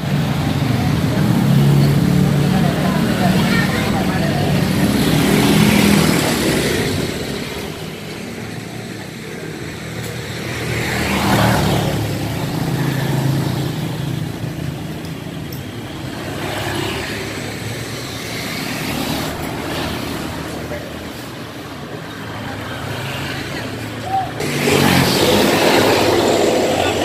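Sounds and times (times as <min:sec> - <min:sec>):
traffic noise: 0:00.0 - 0:27.0
vehicle engine hum: 0:00.0 - 0:27.0.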